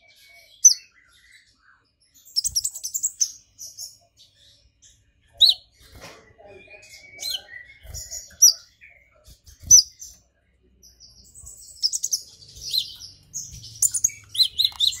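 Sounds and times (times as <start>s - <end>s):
sunbird singing high chirps: 0.0s - 10.2s, 10.8s - 15.0s.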